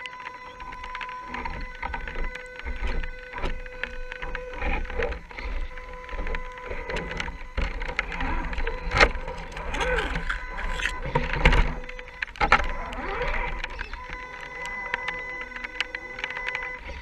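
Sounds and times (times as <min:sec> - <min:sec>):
sharp clicks and knocks: 0:00.0 - 0:17.0
small electric motor whining: 0:00.0 - 0:17.0.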